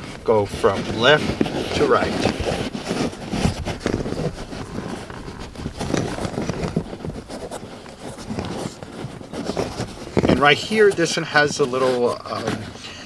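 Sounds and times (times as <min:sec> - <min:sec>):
cable scraping against carpet: 0:00.0 - 0:13.0.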